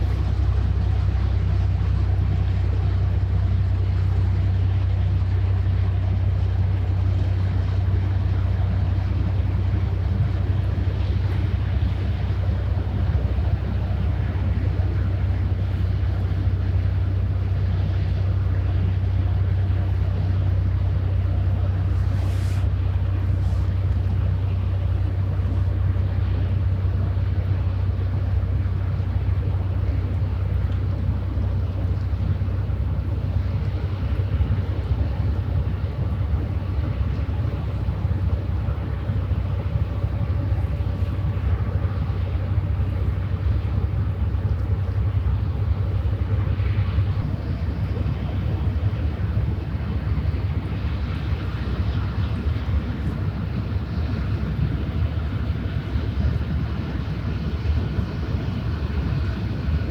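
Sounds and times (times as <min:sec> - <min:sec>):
ship diesel engine drone: 0:00.0 - 0:59.9
wind buffeting microphone: 0:00.0 - 0:59.9.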